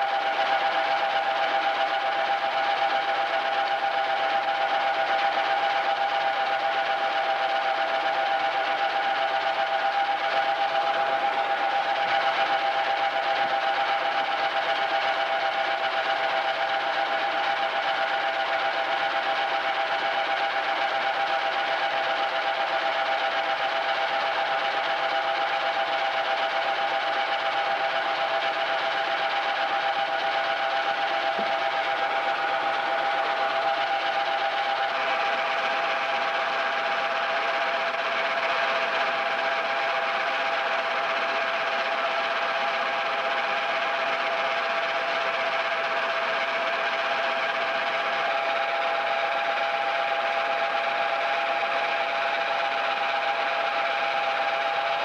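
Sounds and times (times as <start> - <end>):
grinding mill running: 0.0 - 55.0.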